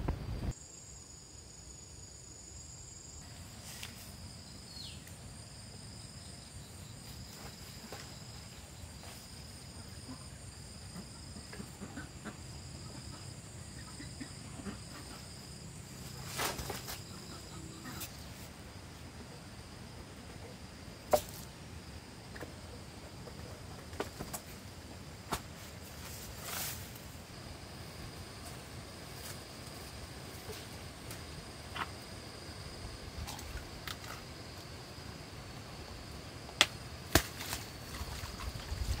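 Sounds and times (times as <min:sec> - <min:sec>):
faint rural ambience: 0:00.0 - 0:39.0
insects chirping: 0:00.0 - 0:39.0.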